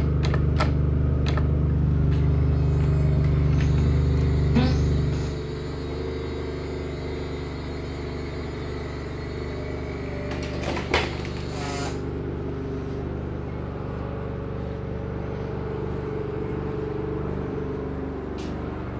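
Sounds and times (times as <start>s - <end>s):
engine humming: 0.0s - 18.9s.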